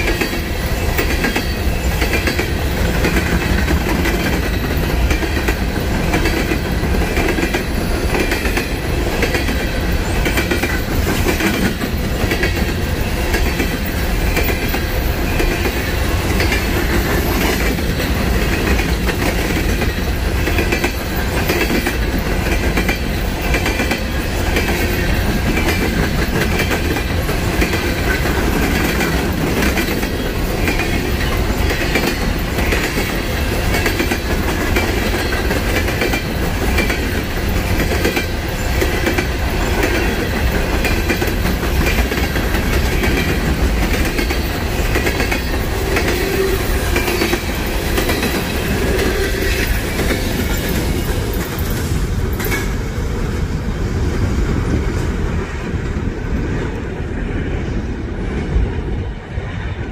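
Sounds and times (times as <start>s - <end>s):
wheels clicking over rail joints: 0.0s - 52.8s
steel wheels rolling on rail: 0.0s - 59.9s.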